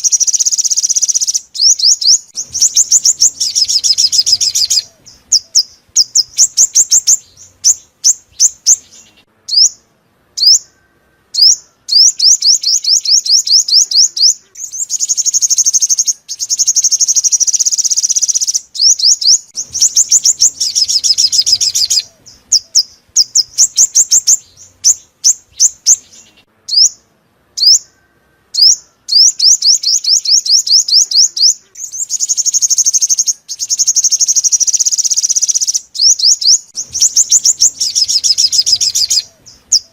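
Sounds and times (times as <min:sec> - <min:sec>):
buzzy bird phrases: 0:00.0 - 0:39.9.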